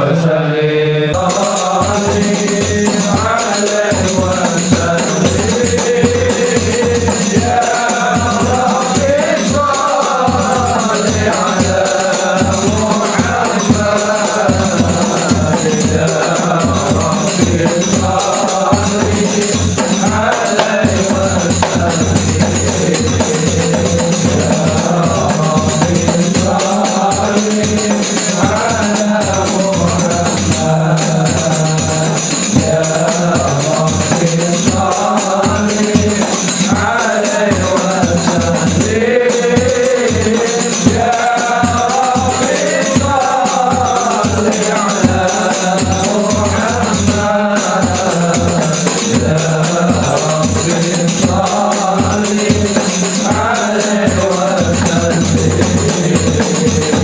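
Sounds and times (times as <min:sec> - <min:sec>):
voices singing a chant: 0:00.0 - 0:57.0
hand-struck frame drums: 0:01.2 - 0:57.0.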